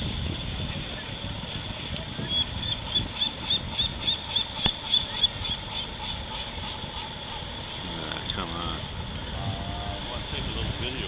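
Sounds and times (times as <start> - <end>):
distant outboard motor running: 0.0 - 11.0
water noise: 0.0 - 11.0
wind: 0.0 - 11.0.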